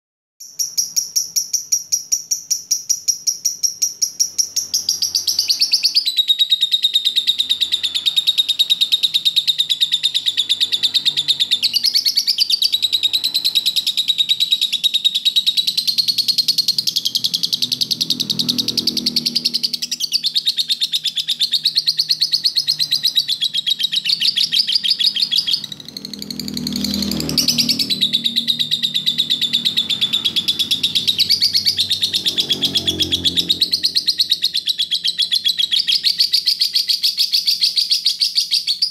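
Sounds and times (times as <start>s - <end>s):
lovebird chirping trill: 0.4s - 38.9s.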